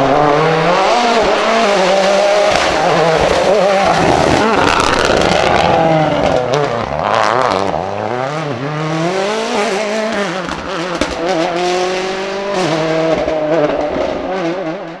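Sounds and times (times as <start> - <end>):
noisy rush: 0.0 - 14.3
rally car engine revving: 0.0 - 15.0.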